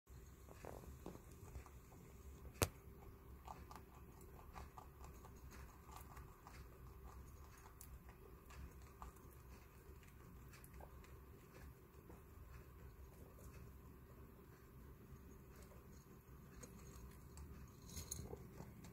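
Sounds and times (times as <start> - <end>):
guinea pigs crunching pellets: 0.1 - 18.9.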